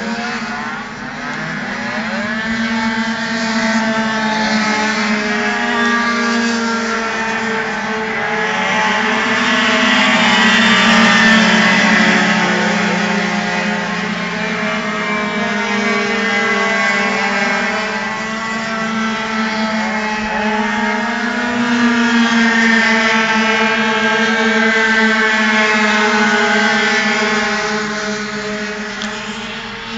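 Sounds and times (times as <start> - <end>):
scooter engines revving: 0.0 - 29.9.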